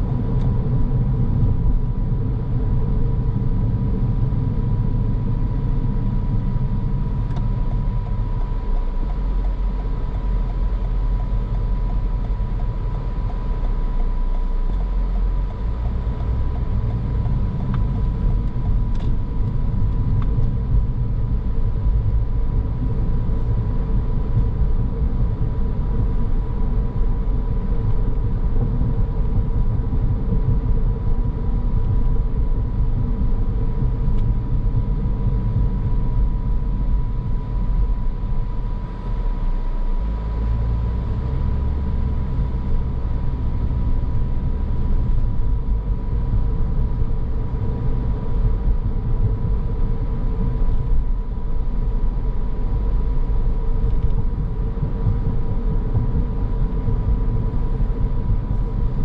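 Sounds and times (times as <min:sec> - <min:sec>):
car engine and tyre rumble: 0:00.0 - 0:59.0
thin constant whine: 0:00.0 - 0:59.0.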